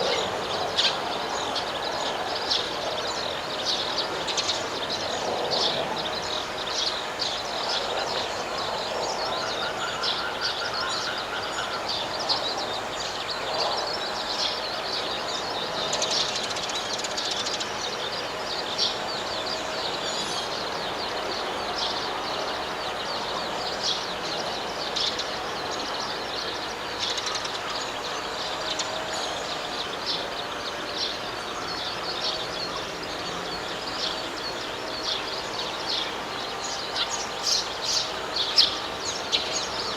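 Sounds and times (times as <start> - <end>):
chorus of high chirps: 0.0 - 39.9.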